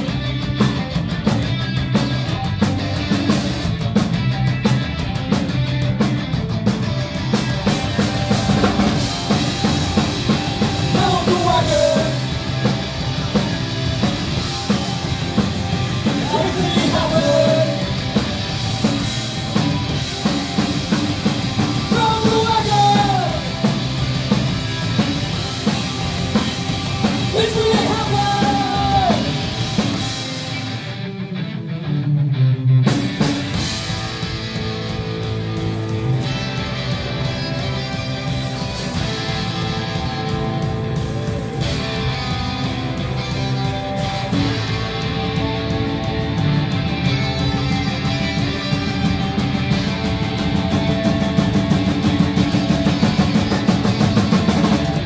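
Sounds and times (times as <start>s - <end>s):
punk rock band playing: 0.0s - 55.0s.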